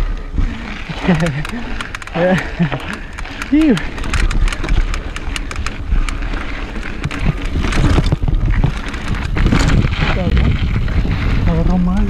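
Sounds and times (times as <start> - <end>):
bike chain and frame rattling: 0.0 - 12.0
wind buffeting microphone: 0.0 - 12.0.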